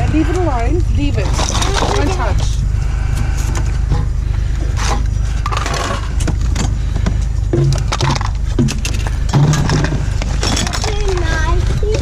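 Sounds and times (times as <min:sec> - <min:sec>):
steady low rumble: 0:00.0 - 0:12.0
hard objects clattering in junk: 0:01.1 - 0:02.6, 0:03.4 - 0:12.0.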